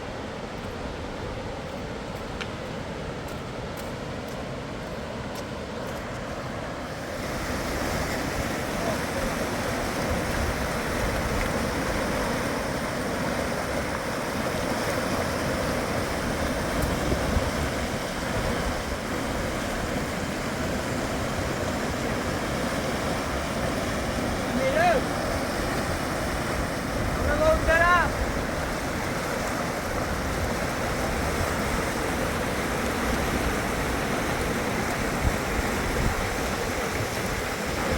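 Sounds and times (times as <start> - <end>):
river water rushing: 0.0 - 37.9.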